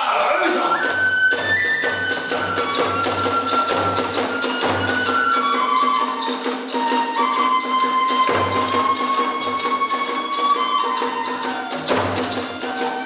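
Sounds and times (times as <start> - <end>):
bamboo flute melody: 0.0 - 13.0
fast drum strokes: 0.7 - 13.0
small hand cymbals: 0.8 - 13.0.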